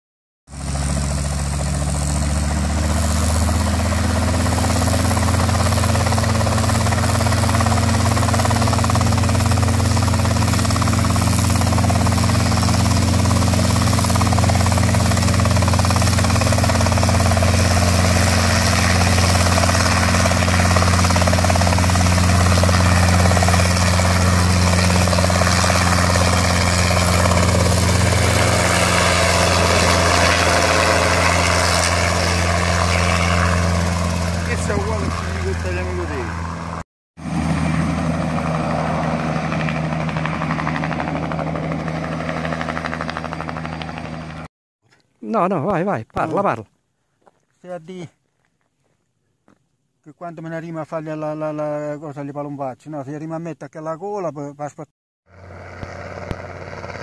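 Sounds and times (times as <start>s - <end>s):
helicopter rotor running: 0.5s - 44.5s, 55.3s - 57.0s.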